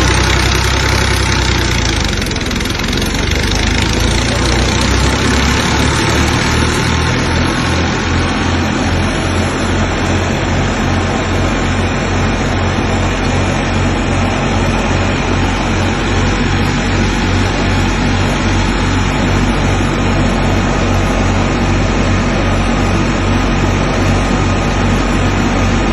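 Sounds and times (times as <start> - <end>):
diesel tractor engine running: 0.0 - 25.9
threshing machine noise: 0.0 - 25.9.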